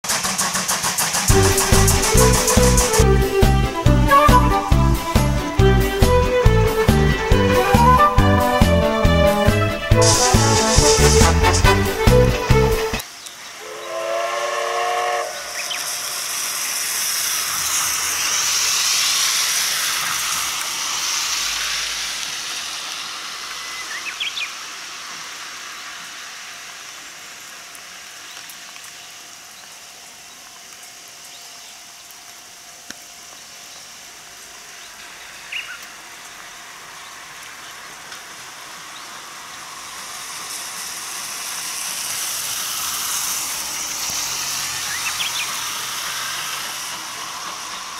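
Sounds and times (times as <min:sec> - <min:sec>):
steam locomotive starting: 0:00.0 - 0:27.8, 0:36.7 - 0:47.9
steam hissing from drain cocks: 0:00.0 - 0:31.2, 0:32.3 - 0:47.9.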